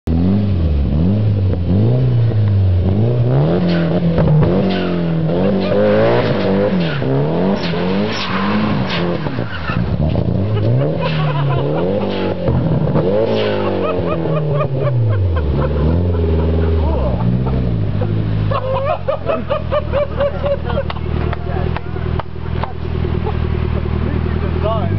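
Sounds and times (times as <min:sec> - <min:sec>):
turbocharged engine revving: 0:00.1 - 0:24.9.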